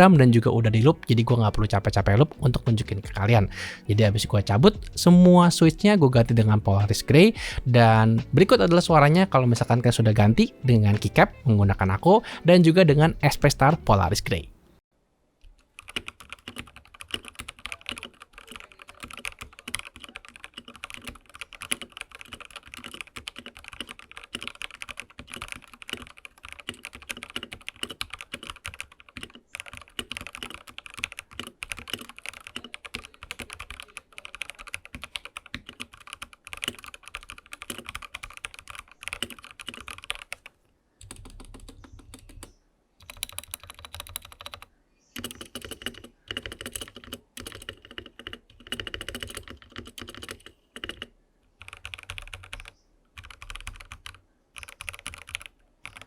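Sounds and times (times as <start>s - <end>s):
fast mechanical keyboard typing: 0.0s - 12.3s, 15.8s - 56.0s.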